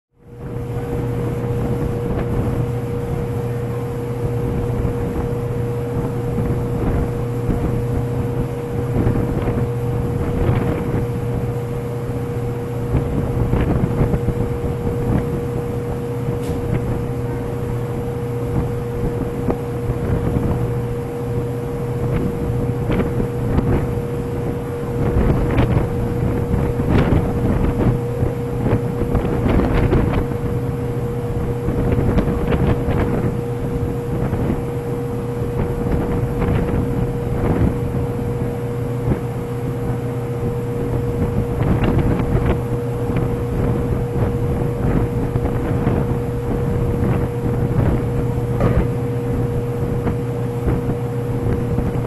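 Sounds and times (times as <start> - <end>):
machinery drone: 0.2 - 52.0
wind buffeting microphone: 0.3 - 52.0.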